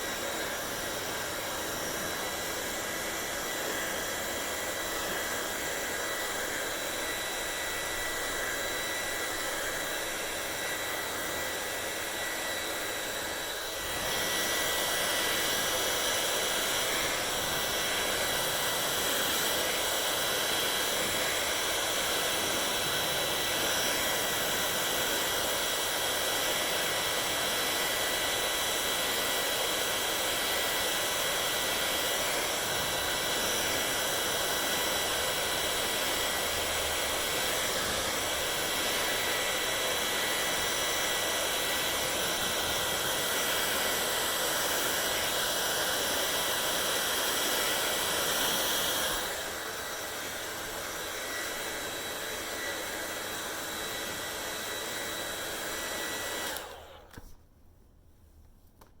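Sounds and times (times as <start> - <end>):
hair dryer running: 0.0 - 57.4.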